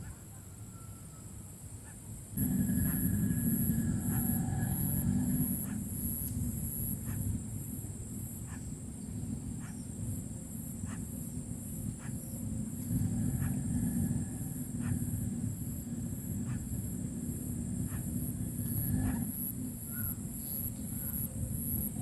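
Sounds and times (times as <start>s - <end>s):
wind rumble on microphone: 2.0s - 22.0s.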